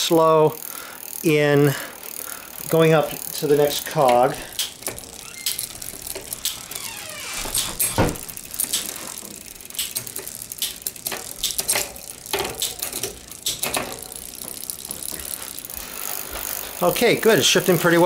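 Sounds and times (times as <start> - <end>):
bicycle chain running over sprockets: 0.0 - 18.0
derailleur shifting clicks: 2.0 - 16.9.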